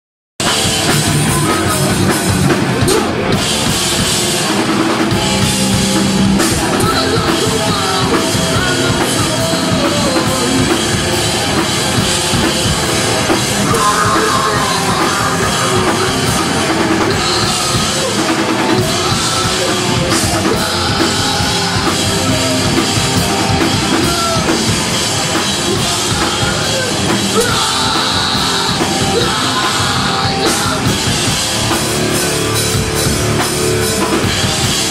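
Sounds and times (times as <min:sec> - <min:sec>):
live rock band playing: 0:00.4 - 0:34.9.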